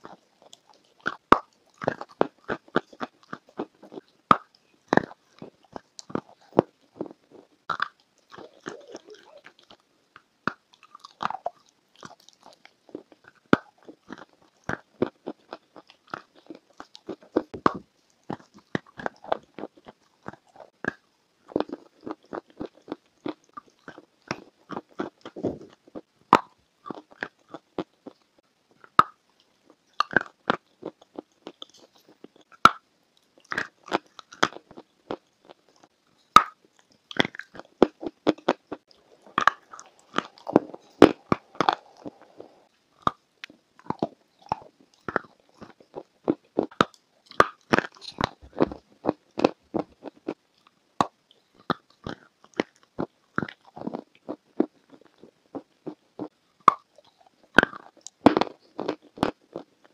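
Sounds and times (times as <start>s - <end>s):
crisp chewing crunches: 0.0s - 59.9s.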